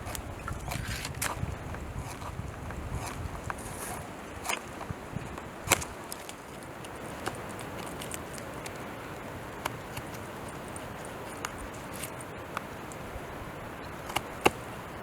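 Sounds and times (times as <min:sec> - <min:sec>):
carving knife ticking on wood: 0:00.0 - 0:08.9, 0:09.5 - 0:13.0, 0:14.0 - 0:14.7
steady background hiss: 0:00.0 - 0:15.0.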